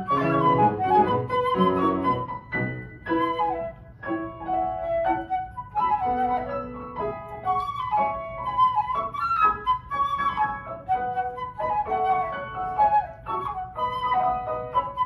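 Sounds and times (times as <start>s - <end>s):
flute melody: 0.0s - 15.0s
piano accompaniment: 0.0s - 15.0s.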